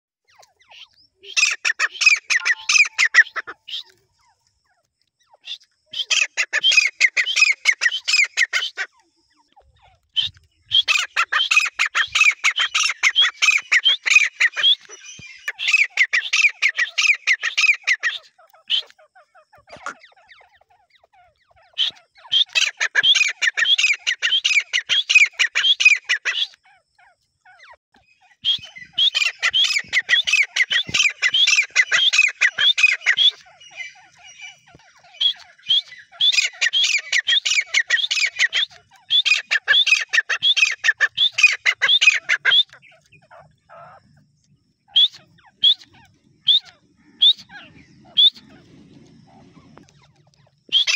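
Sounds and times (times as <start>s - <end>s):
francolin calling: 0.2s - 50.9s.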